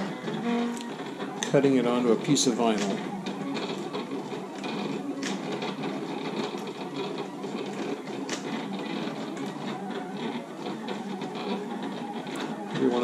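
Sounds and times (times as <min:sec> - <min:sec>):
vinyl cutter motors whirring: 0:00.0 - 0:13.0.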